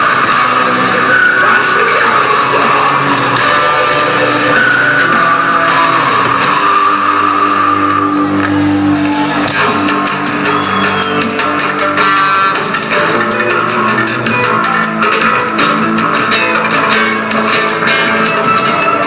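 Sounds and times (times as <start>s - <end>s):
rock music with guitar: 0.0s - 19.0s.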